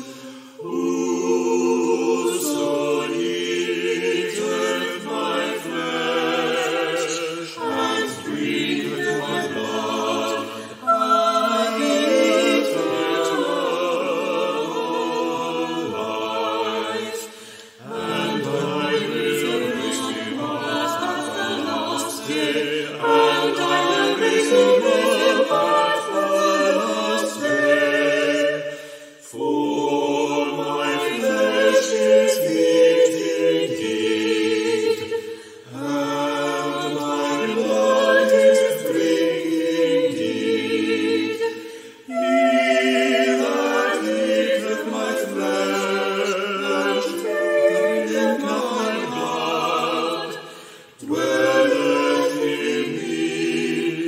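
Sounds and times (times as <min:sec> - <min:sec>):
choir singing unaccompanied: 0:00.0 - 0:54.0.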